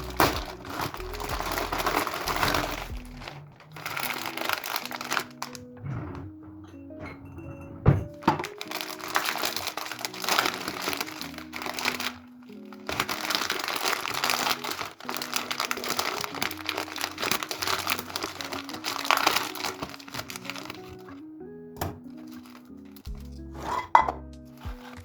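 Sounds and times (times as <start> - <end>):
crinkling and rustling handling: 0.0 - 25.0
soft background music: 0.0 - 25.0.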